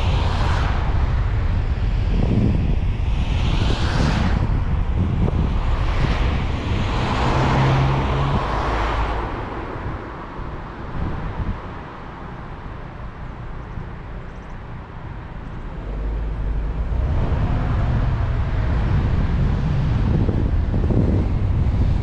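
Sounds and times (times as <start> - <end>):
tyre and wind rumble: 0.0 - 22.0
vehicles swishing past: 0.0 - 22.0.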